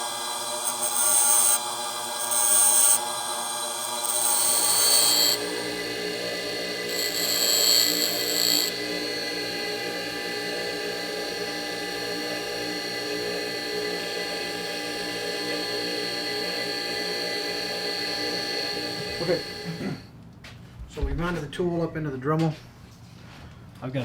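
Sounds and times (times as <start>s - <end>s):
grinder whining: 0.0s - 20.0s.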